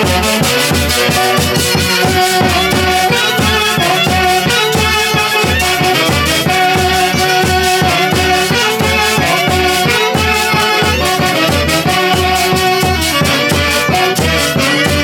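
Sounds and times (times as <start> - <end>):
folk dance band playing: 0.0 - 15.0.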